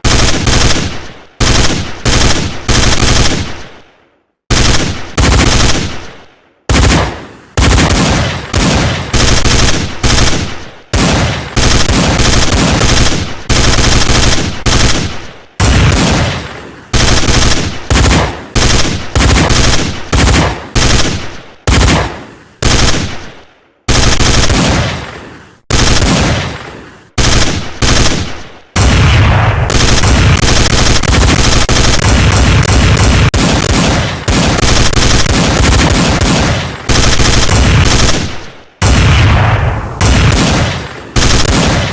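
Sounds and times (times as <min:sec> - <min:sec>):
machine-gun fire: 0:00.0 - 0:03.8, 0:04.5 - 0:41.9.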